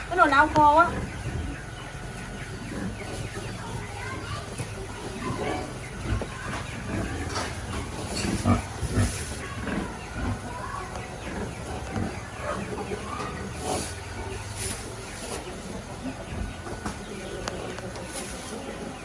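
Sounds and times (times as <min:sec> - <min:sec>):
farm animals calling: 0:00.0 - 0:19.0.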